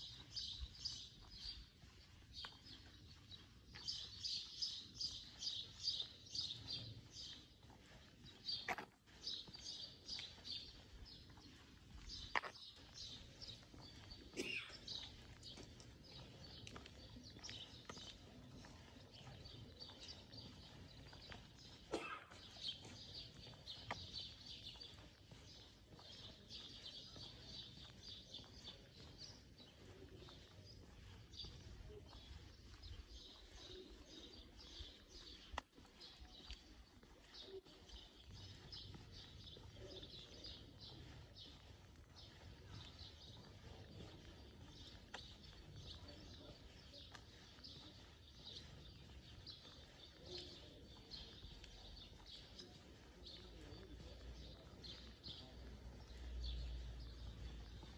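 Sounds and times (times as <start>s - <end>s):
quiet street background: 0.0s - 57.9s
small birds chirping: 0.0s - 57.9s.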